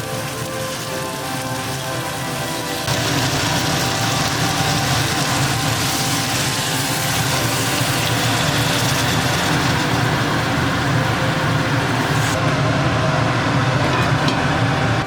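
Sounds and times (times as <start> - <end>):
motor-like drone with hiss: 0.0 - 12.4.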